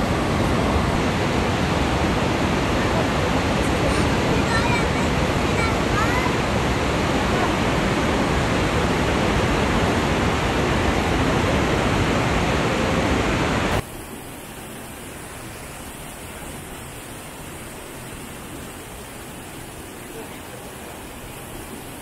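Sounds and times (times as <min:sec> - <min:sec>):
waterfall rushing water: 0:00.0 - 0:22.0.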